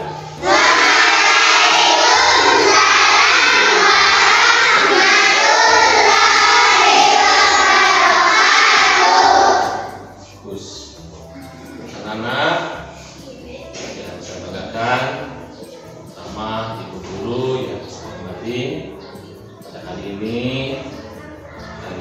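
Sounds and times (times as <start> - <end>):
children singing together: 0.0 - 22.0.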